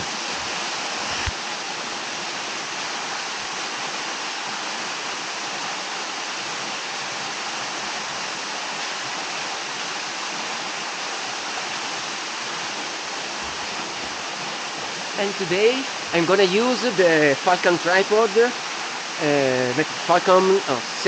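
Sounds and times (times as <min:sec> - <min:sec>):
waterfall splashing into pool: 0:00.0 - 0:21.0.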